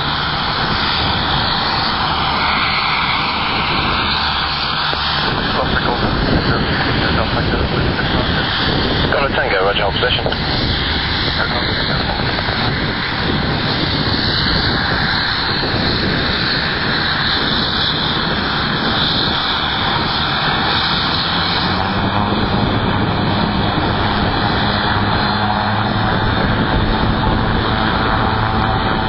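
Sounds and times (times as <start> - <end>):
low propeller drone: 0.0 - 29.0
turboprop engines whining: 0.0 - 29.0.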